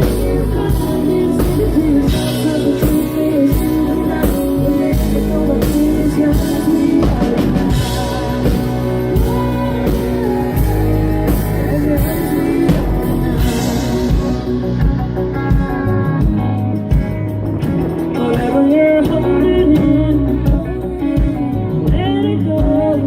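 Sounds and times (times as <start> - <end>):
person singing: 0.0 - 17.0, 17.7 - 23.0
live country-rock band: 0.0 - 23.0.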